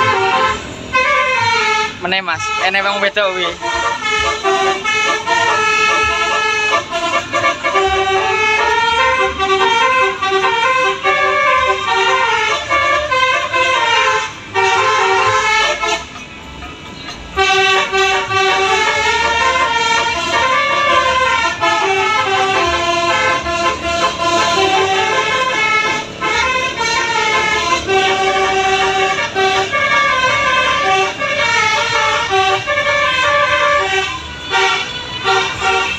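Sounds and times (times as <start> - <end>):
multi-trumpet bus air horn tune: 0.0 - 35.9.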